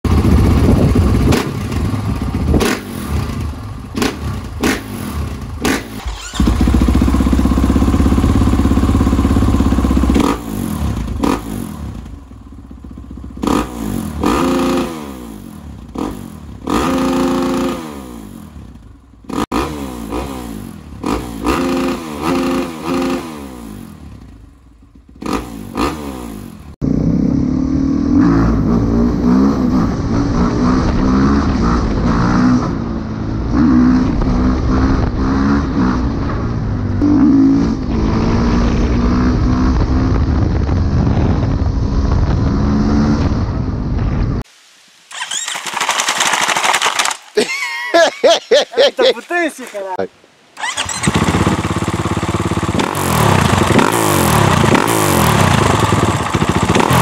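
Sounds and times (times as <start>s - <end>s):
motorcycle engine revving: 0.0s - 44.2s, 45.1s - 47.1s, 50.6s - 57.0s.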